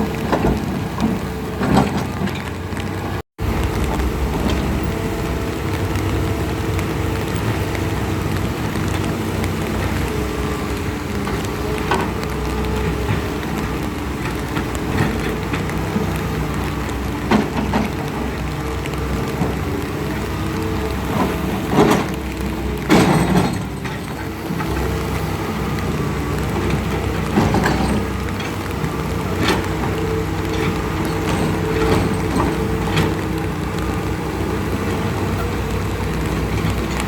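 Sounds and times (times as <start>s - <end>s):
engine hum: 0.0s - 37.0s
heavy rain: 0.0s - 37.0s.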